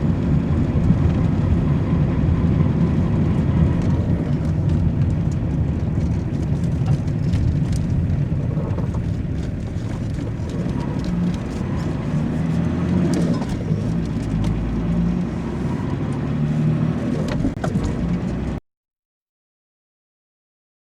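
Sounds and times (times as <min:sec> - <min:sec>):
car engine and road rumble: 0:00.0 - 0:18.6.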